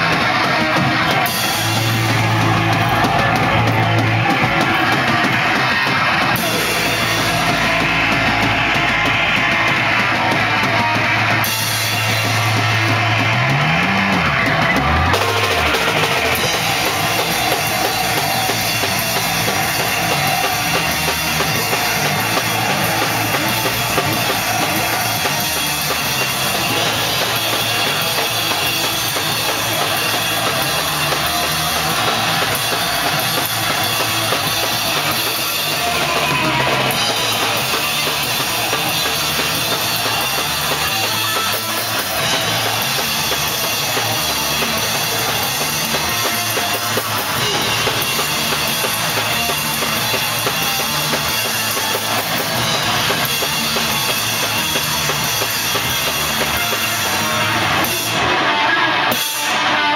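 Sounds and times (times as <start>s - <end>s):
drum kit with cymbals: 0.0s - 59.9s
guitar: 0.0s - 59.9s.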